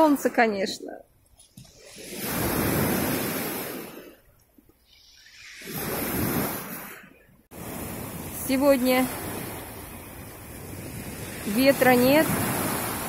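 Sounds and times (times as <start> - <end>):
waves breaking on pebble shore: 1.6 - 4.2, 4.9 - 13.0.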